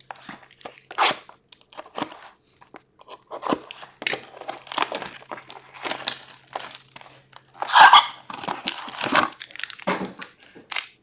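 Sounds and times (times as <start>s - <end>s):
cardboard and wrapping crinkling: 0.0s - 11.0s.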